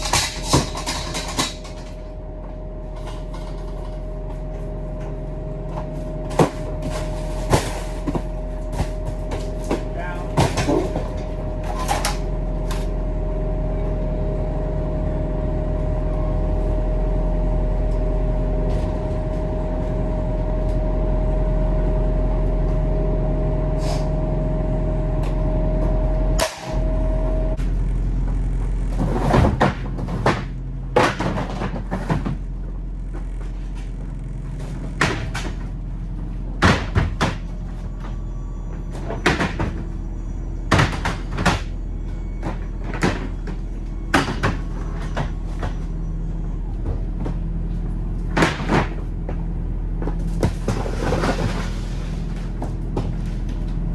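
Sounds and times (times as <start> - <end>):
truck engine humming: 0.0 - 53.9.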